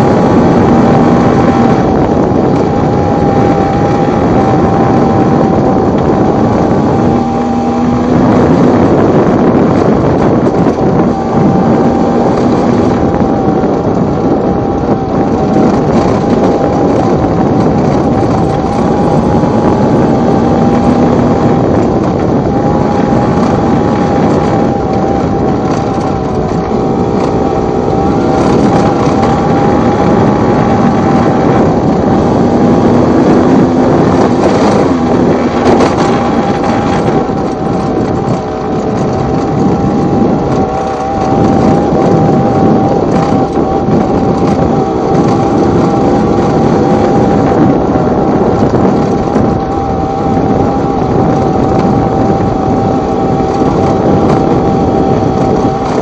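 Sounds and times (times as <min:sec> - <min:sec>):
rushing noise: 0:00.0 - 0:56.0
two-stroke motorcycle engine: 0:00.0 - 0:56.0.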